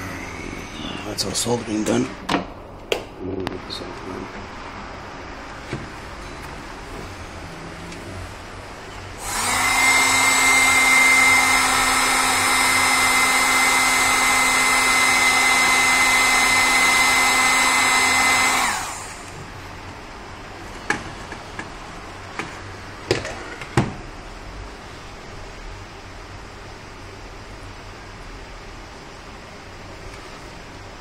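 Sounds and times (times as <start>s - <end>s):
heat gun fan hum with whine: 0.0s - 31.0s.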